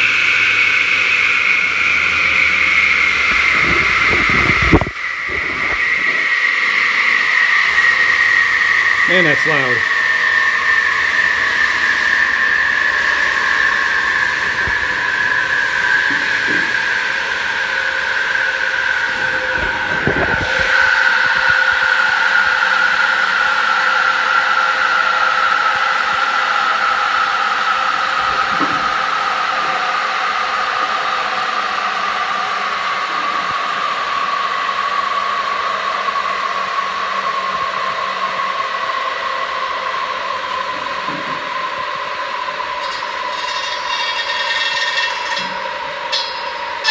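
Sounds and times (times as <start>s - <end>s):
saw blade whine winding down: 0.0s - 46.9s.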